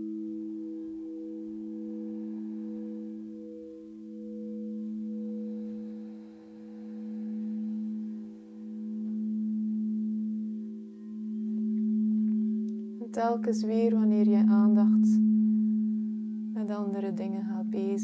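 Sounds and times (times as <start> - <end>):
singing bowls droning: 0.0 - 18.0.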